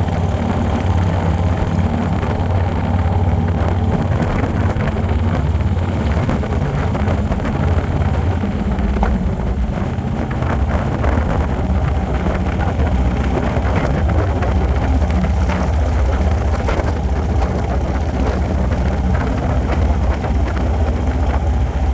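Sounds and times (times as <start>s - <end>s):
motorcycle engine running: 0.0s - 21.9s
wind rushing over microphone: 0.0s - 21.9s.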